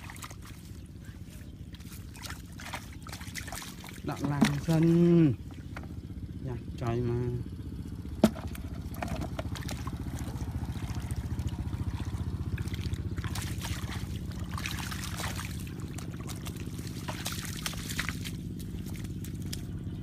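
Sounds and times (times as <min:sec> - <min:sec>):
splashing in shallow water: 0:00.0 - 0:06.4, 0:08.1 - 0:20.0
low engine drone: 0:00.0 - 0:20.0.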